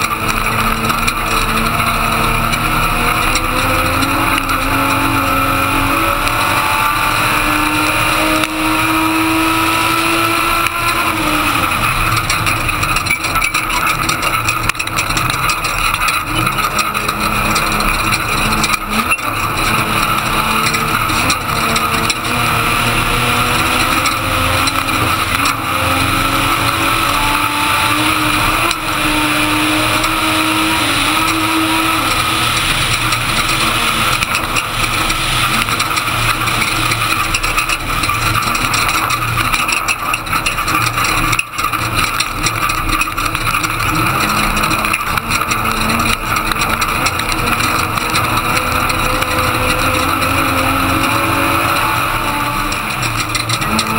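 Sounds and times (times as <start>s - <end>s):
road and wind noise: 0.0s - 53.9s
truck engine revving: 0.0s - 53.9s.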